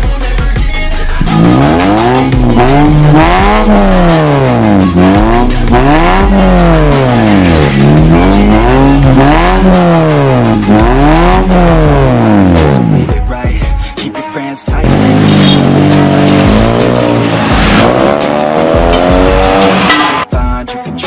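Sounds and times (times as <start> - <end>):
car engine revving: 1.0 - 13.1, 14.8 - 20.3.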